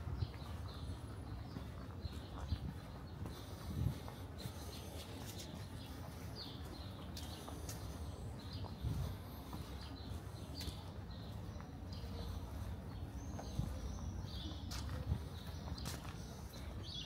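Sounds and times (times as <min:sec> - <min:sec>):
footsteps: 0:00.0 - 0:17.0.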